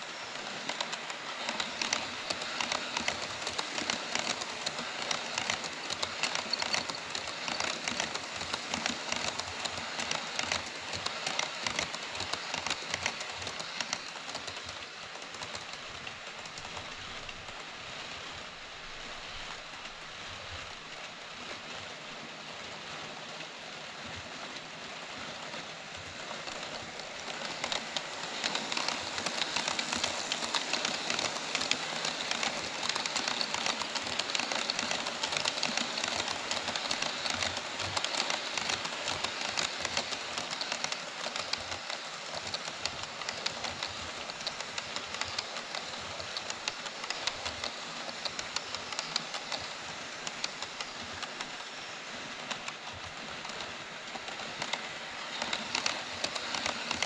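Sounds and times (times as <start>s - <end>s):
model train wheels clicking on rail joints: 0.0s - 57.0s.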